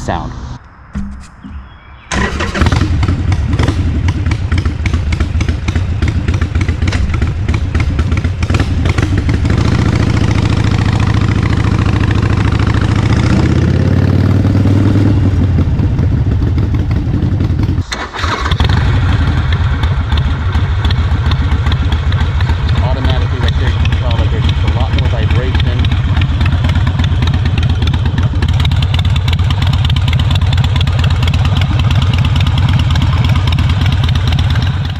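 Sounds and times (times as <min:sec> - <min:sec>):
motorcycle engine idling and revving: 0:01.5 - 0:34.9.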